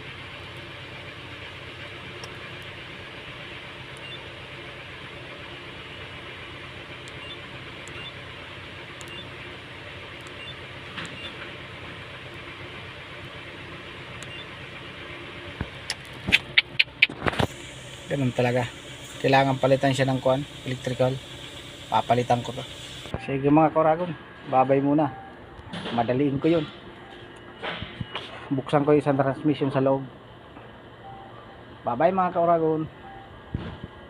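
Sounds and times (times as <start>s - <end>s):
low hum: 0.0s - 28.8s.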